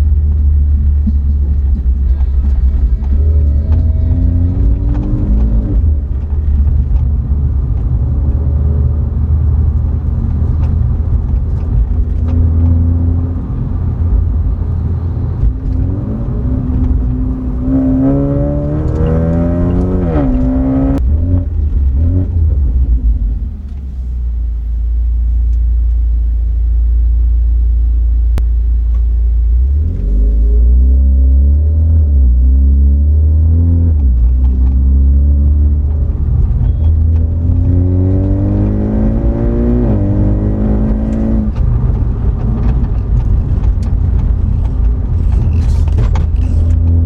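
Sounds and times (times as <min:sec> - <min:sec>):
car engine and exhaust rumble: 0:00.0 - 0:47.0.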